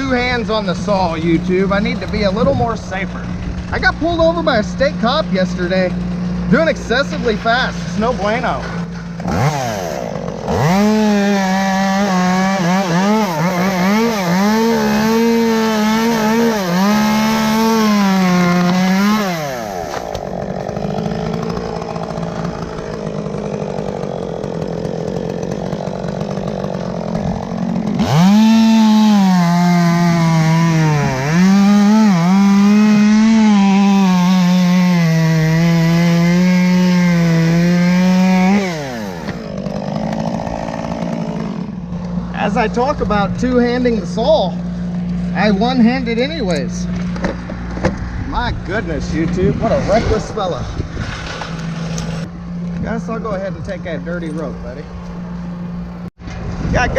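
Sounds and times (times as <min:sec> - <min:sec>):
chainsaw cutting wood: 0:00.0 - 0:56.6.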